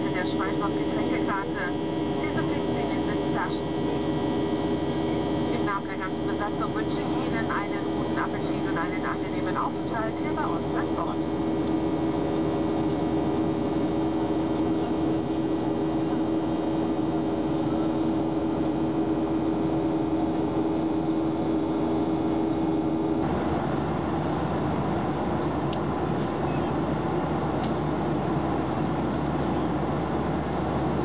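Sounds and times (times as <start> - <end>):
airliner cabin engine noise: 0.0 - 31.0
low hum: 0.0 - 31.0.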